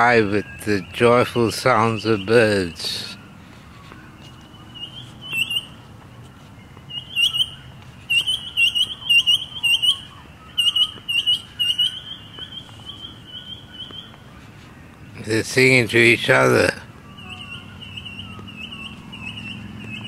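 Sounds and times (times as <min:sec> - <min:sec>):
bird calling sharp notes: 0:00.0 - 0:05.9, 0:06.6 - 0:20.0.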